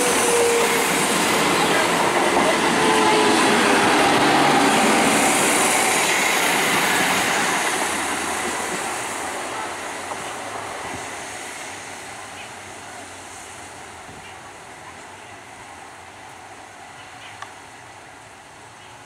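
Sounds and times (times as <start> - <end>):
train wheels running on rails: 0.0 - 19.0.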